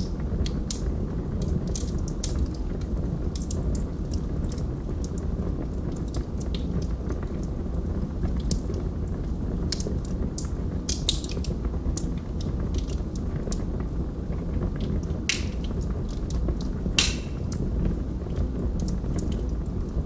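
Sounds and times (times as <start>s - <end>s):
burning logs crackling and popping: 0.0s - 20.0s
fire rumbling: 0.0s - 20.0s.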